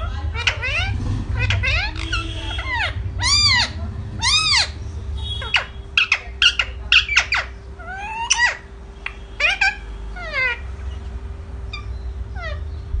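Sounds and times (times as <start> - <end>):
parrot squawking: 0.0 - 12.8.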